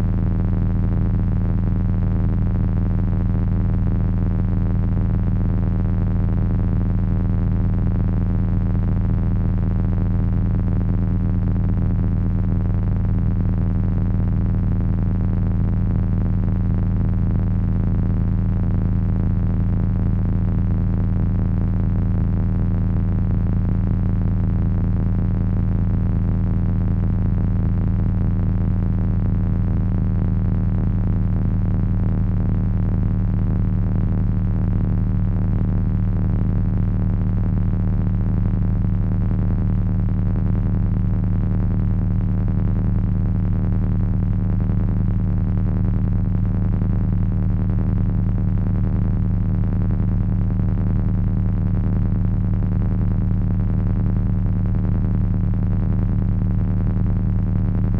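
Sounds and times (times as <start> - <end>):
steady low hum: 0.0 - 55.3, 55.9 - 57.9.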